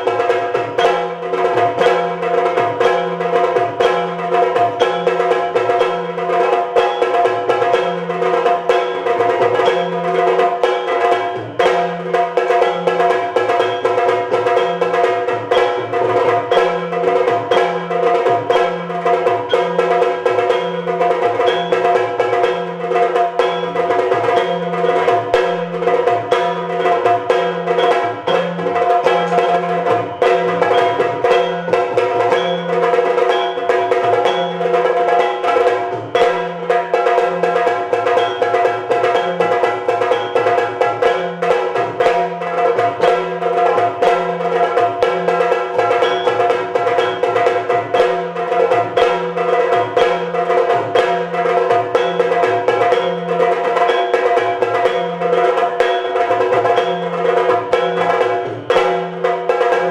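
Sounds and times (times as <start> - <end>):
fast dense drumming: 0.0 - 59.9.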